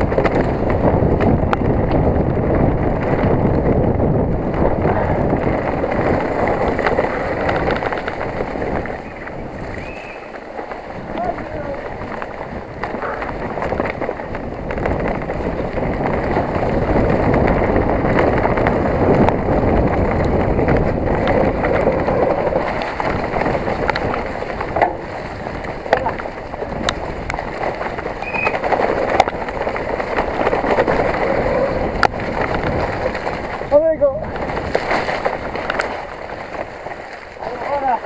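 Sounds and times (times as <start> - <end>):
bike knocks and rattles: 0.0 - 38.0
bike tyre noise: 0.0 - 38.0
wind rushing on microphone: 0.0 - 38.0.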